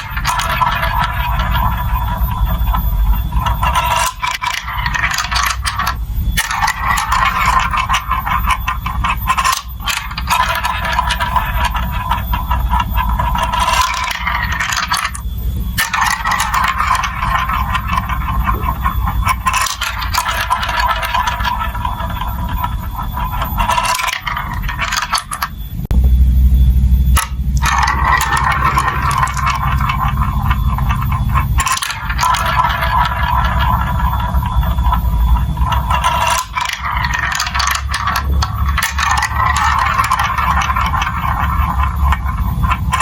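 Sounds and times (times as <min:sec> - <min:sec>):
marbles rattling down plastic track: 0:00.0 - 0:25.8, 0:27.1 - 0:43.0.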